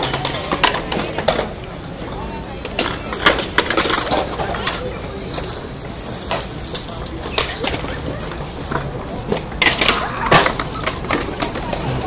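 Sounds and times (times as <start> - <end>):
skateboard wheels rolling on concrete: 0.0 - 12.0
skateboards landing and clacking: 0.0 - 12.0
voices talking: 0.0 - 12.0.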